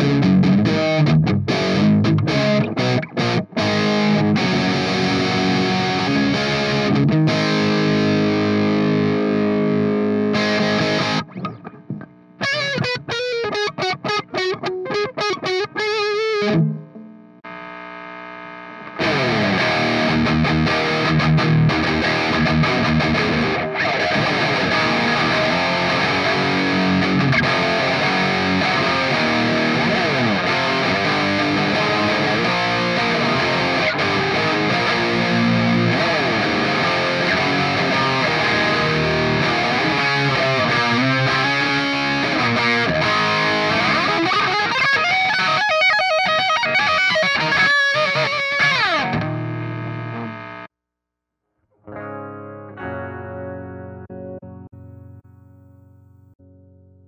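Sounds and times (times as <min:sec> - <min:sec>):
distorted electric guitar chords: 0:00.0 - 0:50.7, 0:51.7 - 0:57.0
electric guitar lead line: 0:00.0 - 0:50.7, 0:51.8 - 0:57.0.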